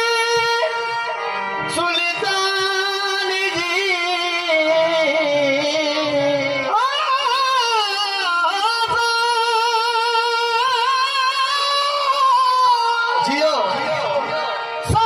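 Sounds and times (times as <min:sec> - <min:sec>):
harmonium: 0:00.0 - 0:15.0
men singing: 0:00.0 - 0:15.0.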